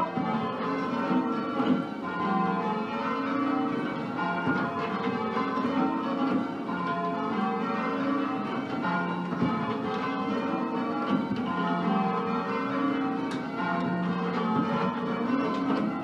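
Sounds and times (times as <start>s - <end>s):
church bells change ringing: 0.0s - 16.0s.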